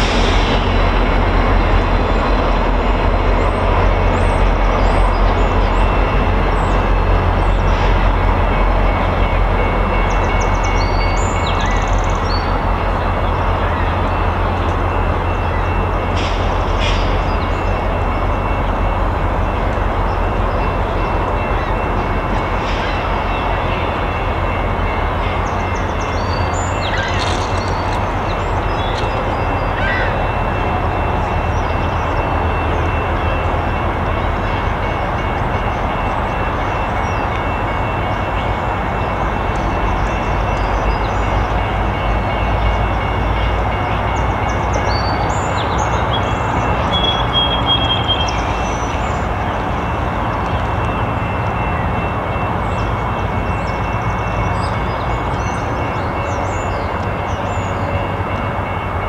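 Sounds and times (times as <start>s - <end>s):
diesel locomotive engine drone: 0.0s - 59.0s
train running on rails: 0.0s - 59.0s.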